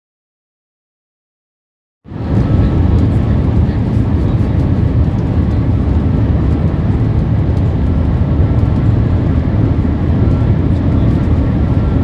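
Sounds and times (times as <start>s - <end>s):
moving vehicle rumble: 2.1s - 12.0s.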